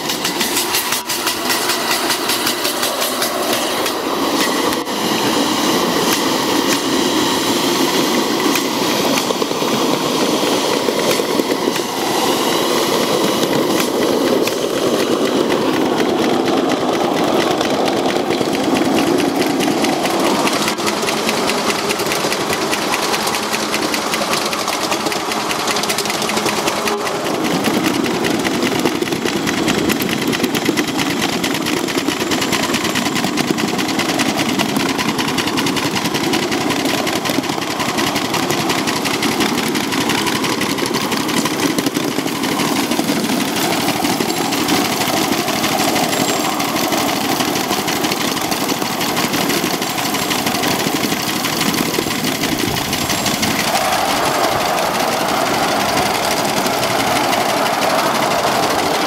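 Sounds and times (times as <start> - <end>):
steam locomotive chuffing: 0.0 - 59.0.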